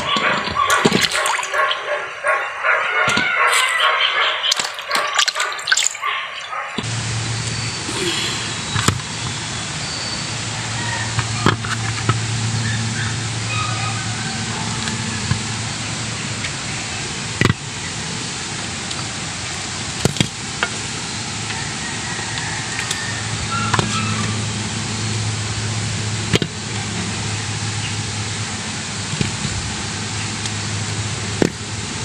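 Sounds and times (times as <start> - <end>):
steady low hum: 6.1 - 32.0.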